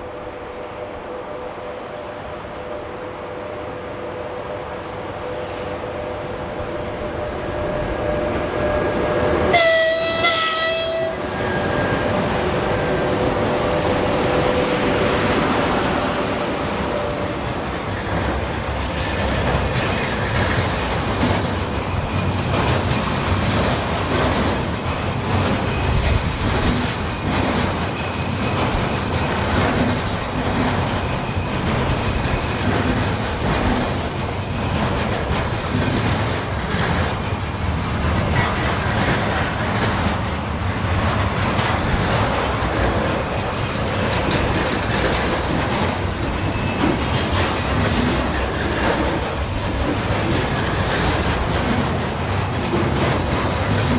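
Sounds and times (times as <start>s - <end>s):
freight train wheels clattering: 4.4s - 53.9s.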